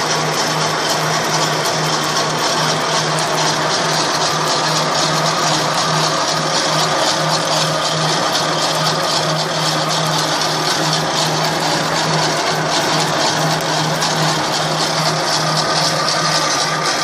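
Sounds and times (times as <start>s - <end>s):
extruder machine din: 0.0s - 17.0s.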